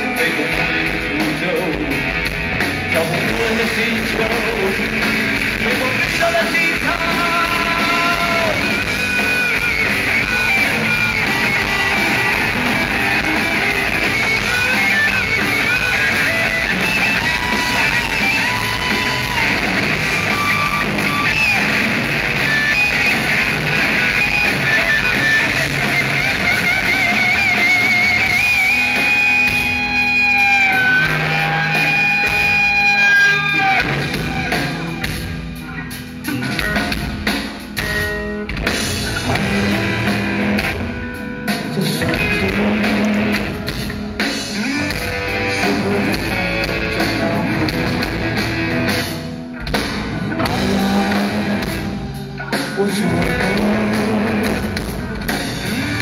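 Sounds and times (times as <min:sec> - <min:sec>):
live rock band playing: 0:00.0 - 0:56.0
wavering electric guitar lead: 0:00.0 - 0:56.0.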